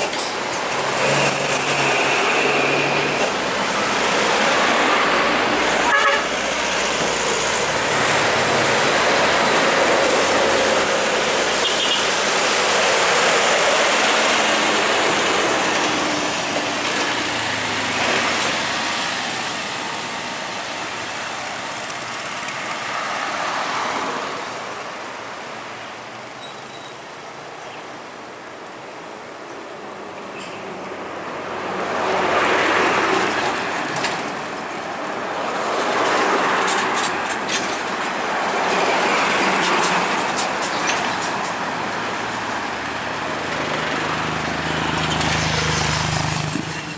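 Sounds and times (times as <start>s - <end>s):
heavy trucks passing: 0.0s - 26.4s, 29.8s - 46.9s.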